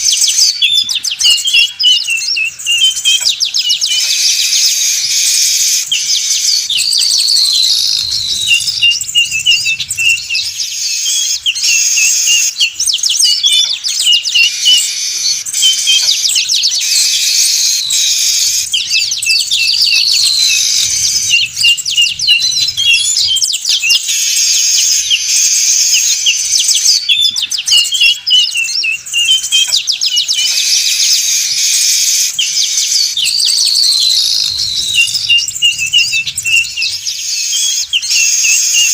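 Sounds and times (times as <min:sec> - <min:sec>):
birds chattering and twittering: 0:00.0 - 0:38.9.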